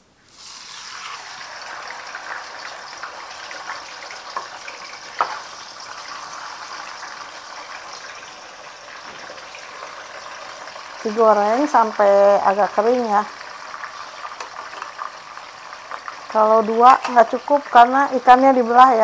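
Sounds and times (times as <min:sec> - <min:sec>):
fish sizzling in hot oil: 0:00.3 - 0:19.0.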